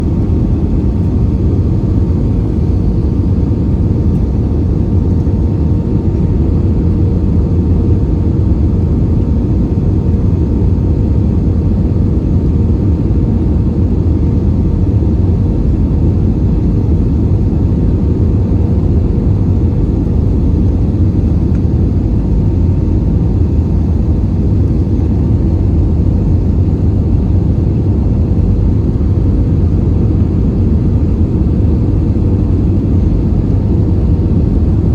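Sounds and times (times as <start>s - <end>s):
airplane cabin roar: 0.0s - 34.9s
faint steady hum: 0.0s - 34.9s.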